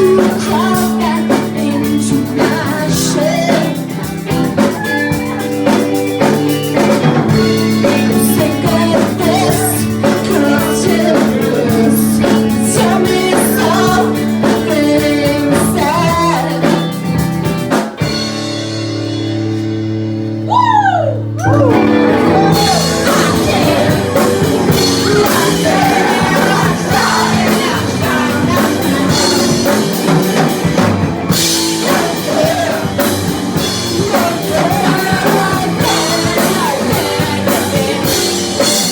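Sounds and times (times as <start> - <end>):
person singing: 0.0 - 6.4, 7.2 - 17.0, 20.5 - 38.9
drum kit: 0.0 - 38.9
live rock band playing: 0.0 - 38.9.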